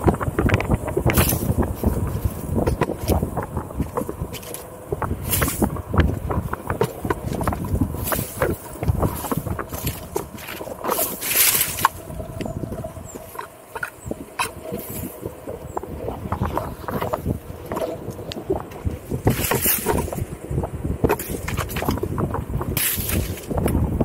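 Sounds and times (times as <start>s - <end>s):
fronds brushing hiss: 0.0s - 20.5s
wind buffeting microphone: 0.0s - 24.0s.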